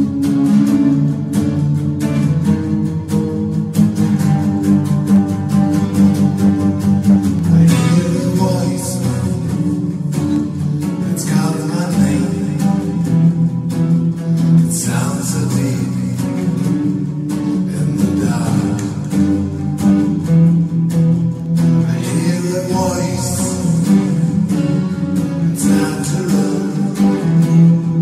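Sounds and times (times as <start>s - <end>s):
plucked acoustic guitar music: 0.0s - 28.0s
steady held notes: 0.0s - 28.0s.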